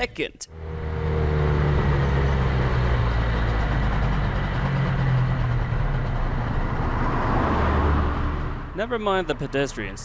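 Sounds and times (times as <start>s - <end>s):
road noise: 0.0s - 10.0s
vehicle engine drone: 0.0s - 10.0s.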